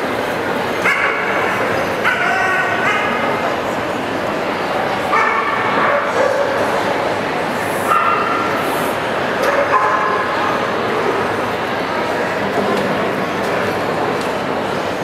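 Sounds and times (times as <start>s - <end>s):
background hubbub: 0.0s - 15.0s.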